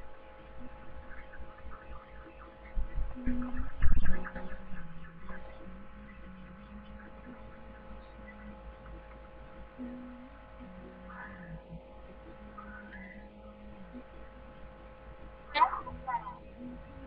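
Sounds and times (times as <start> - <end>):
electrical mains hum: 0.0 - 17.0
faint low shifting notes: 0.0 - 17.0.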